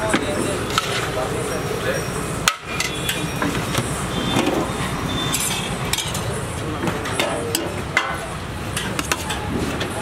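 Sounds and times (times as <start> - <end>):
metal utensils clinking on pots: 0.0 - 9.9
steady background noise: 0.0 - 10.0.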